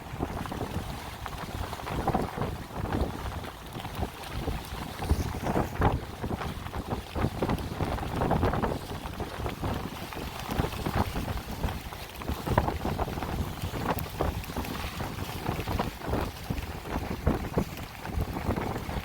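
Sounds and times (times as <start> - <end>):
low rumble of boat and water: 0.0 - 19.0
wind buffeting microphone: 0.0 - 19.0.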